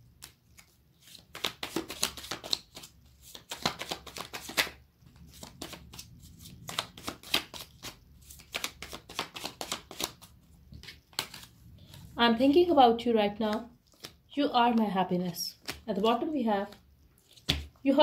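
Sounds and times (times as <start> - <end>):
paper cards being shuffled: 0.1 - 12.1, 13.4 - 17.8.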